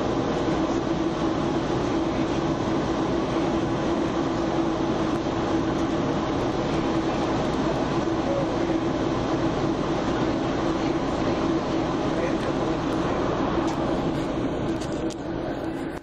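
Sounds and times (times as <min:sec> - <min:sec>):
constant hum: 0:00.0 - 0:16.0
train rumbling and rushing: 0:00.0 - 0:16.0.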